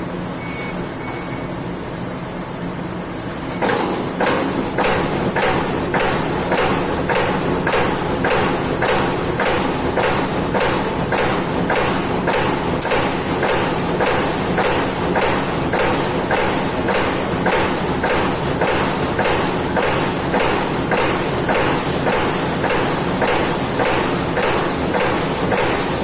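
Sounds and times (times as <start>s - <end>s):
machine hum: 0.0s - 26.0s
punch press hitting sheet metal: 3.5s - 26.0s.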